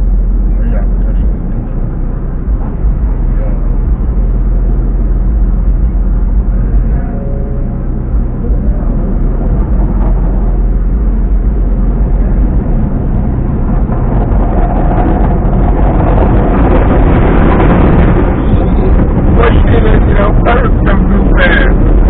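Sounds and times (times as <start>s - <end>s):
car wash rushing and rumbling: 0.0s - 22.0s.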